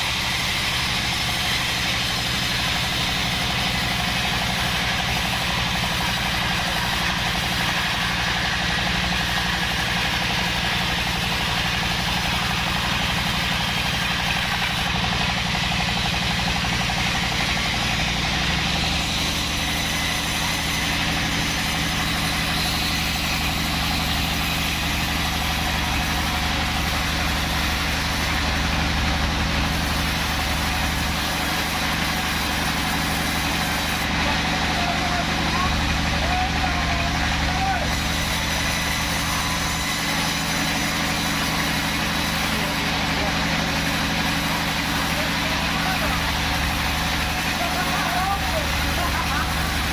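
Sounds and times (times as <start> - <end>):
band saw cutting wood: 0.0 - 49.9.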